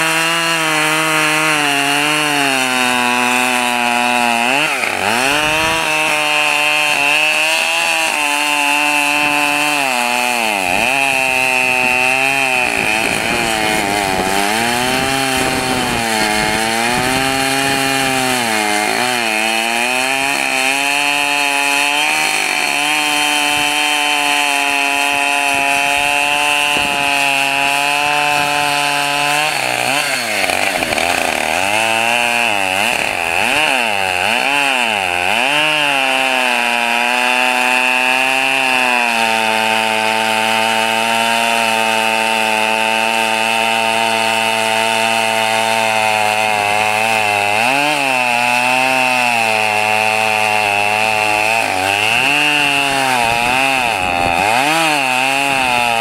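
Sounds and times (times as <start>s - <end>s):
chainsaw cutting into log: 0.0s - 56.0s.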